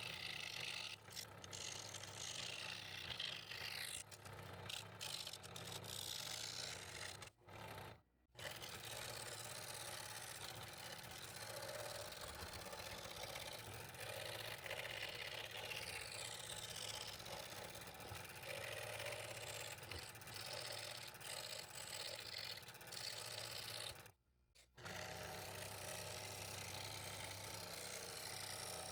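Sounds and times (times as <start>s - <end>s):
scroll saw cutting wood: 0.0s - 28.9s.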